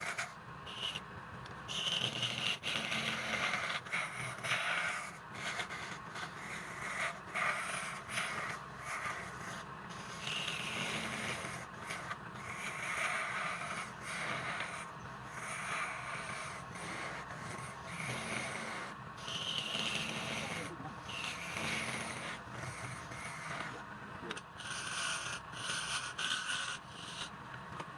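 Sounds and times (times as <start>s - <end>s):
turning tool scraping workpiece: 1.7s - 27.4s.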